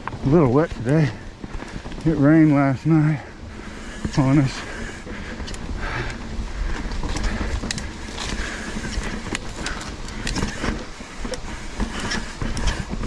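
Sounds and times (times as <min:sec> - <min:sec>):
bike clicks and rattles: 0:00.0 - 0:13.0
mountain bike rolling on dirt: 0:00.0 - 0:13.0.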